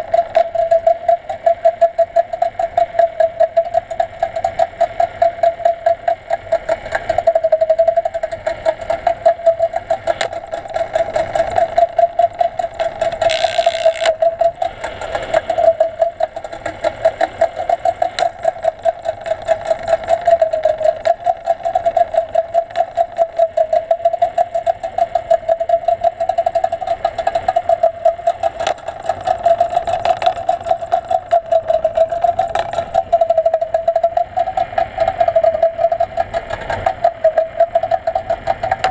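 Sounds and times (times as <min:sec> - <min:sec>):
underwater motor hum: 0:00.0 - 0:38.9.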